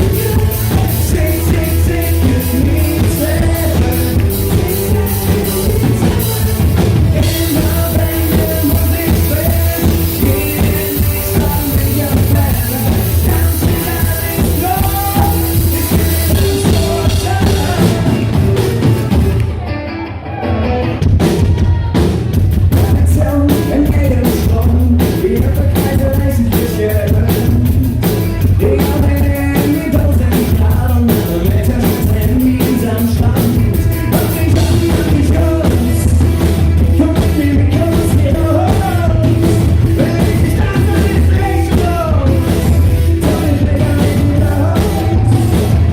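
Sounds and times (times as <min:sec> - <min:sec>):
steady bass: 0:00.0 - 0:19.7, 0:20.6 - 0:45.9
drums: 0:00.0 - 0:45.9
lead singer singing: 0:00.0 - 0:45.9
live rock band playing: 0:00.0 - 0:45.9.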